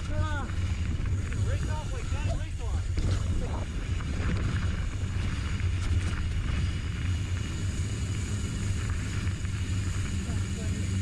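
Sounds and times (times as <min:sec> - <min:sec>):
bike tyres rumbling on dirt: 0:00.0 - 0:11.0.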